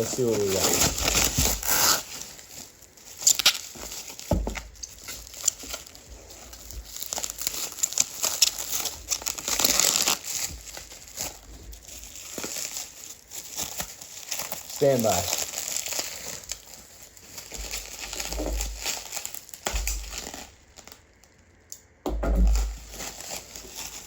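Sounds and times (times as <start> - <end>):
packing material crinkling and tearing: 0.0 - 21.7, 22.3 - 24.0.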